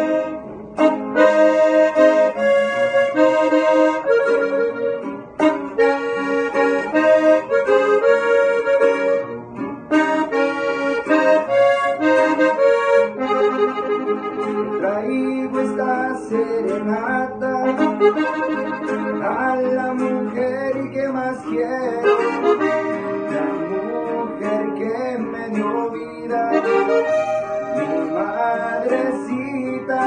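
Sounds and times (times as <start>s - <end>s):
button accordion melody: 0.0s - 30.0s
guitar strumming: 0.0s - 30.0s.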